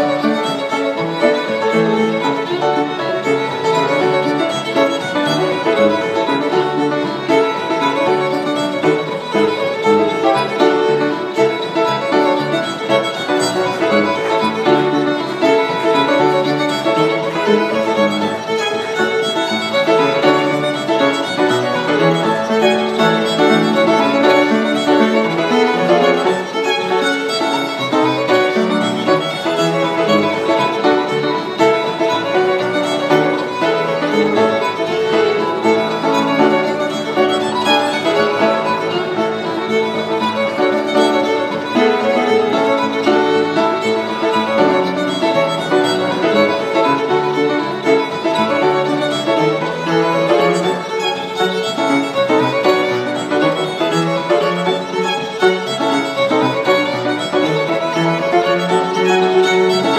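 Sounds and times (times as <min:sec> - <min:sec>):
fiddle playing dance tune: 0:00.0 - 0:59.9
piano accompaniment: 0:00.0 - 0:59.9.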